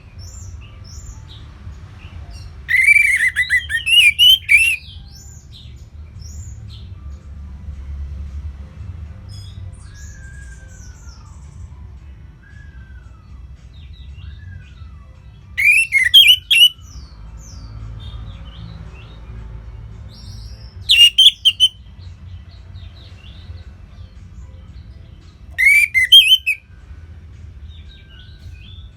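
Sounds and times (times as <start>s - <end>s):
songbirds singing: 0.0s - 6.9s, 9.3s - 11.8s, 12.6s - 26.6s, 27.6s - 28.9s.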